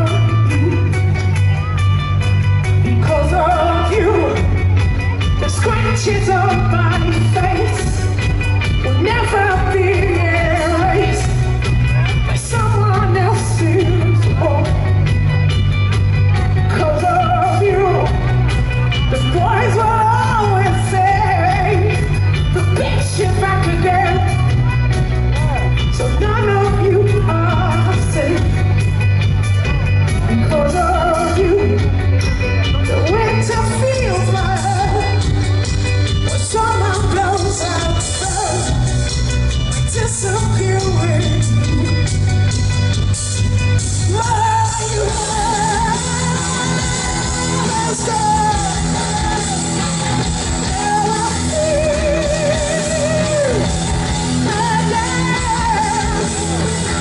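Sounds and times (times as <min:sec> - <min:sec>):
woman singing lead vocal: 0:00.0 - 0:28.8, 0:30.1 - 0:42.2, 0:43.7 - 0:57.0
heavy bass guitar: 0:00.0 - 0:57.0
rock band playing: 0:00.0 - 0:57.0.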